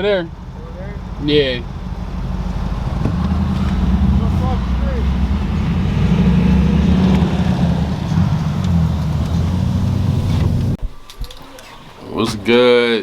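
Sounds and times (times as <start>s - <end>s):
car engine droning: 0.0s - 10.8s
road noise: 0.0s - 10.8s.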